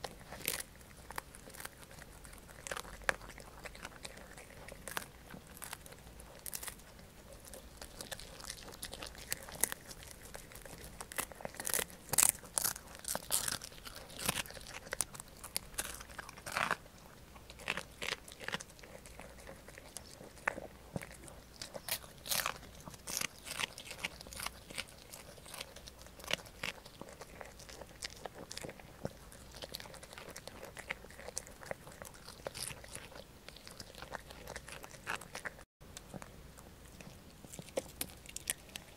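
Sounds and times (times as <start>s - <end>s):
dog crunching dried fish: 0.0s - 38.9s.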